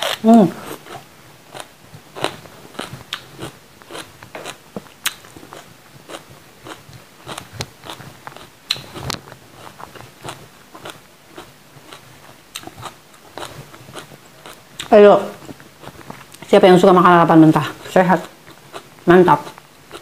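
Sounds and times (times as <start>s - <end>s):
person chewing crisp pepper: 0.0s - 16.5s, 17.5s - 20.0s.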